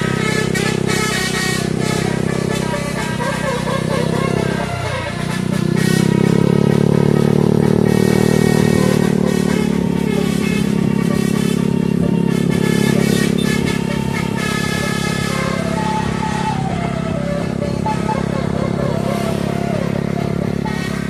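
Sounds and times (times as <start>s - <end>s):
musical tones: 0.0s - 21.0s
vehicle engine running steadily: 0.0s - 21.0s.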